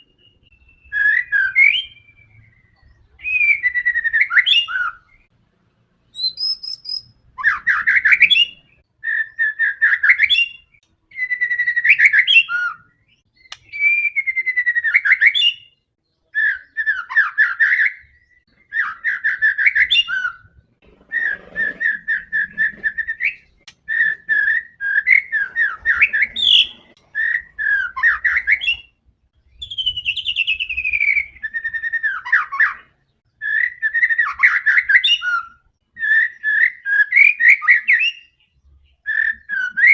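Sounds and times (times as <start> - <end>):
bird whistling song: 0.0 - 5.3, 6.1 - 39.9.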